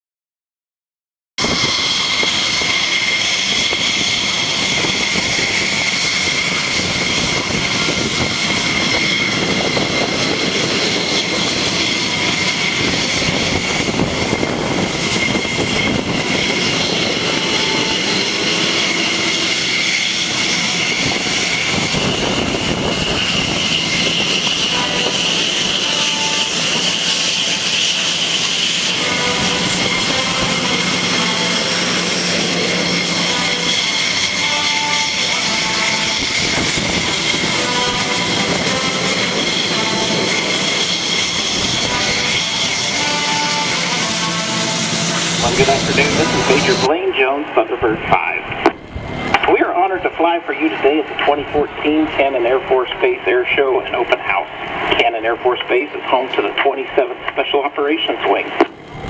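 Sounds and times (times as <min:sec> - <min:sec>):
jet engines running with whine: 0:01.4 - 0:59.0.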